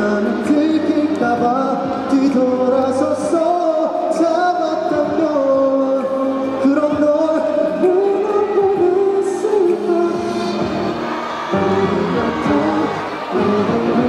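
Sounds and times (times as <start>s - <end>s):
backing music: 0.0s - 14.0s
man singing into a microphone: 0.0s - 14.0s.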